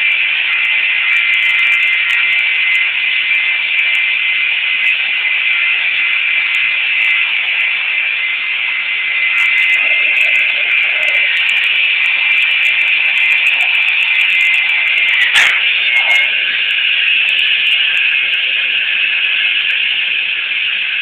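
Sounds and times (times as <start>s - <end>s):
table saw whining: 0.0s - 21.0s.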